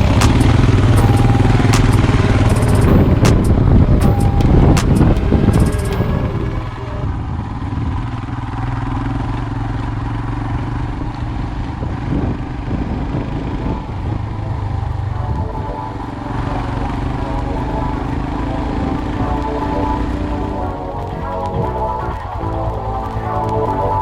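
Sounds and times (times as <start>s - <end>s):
motorcycle engine running: 0.0s - 21.1s.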